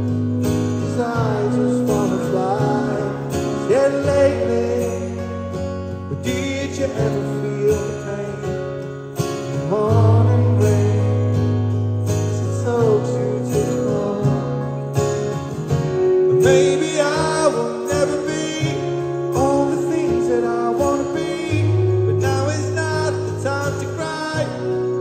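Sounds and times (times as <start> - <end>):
bass notes: 0.0 - 25.0
strummed acoustic guitar: 0.0 - 25.0
man singing: 0.6 - 14.9, 16.1 - 25.0.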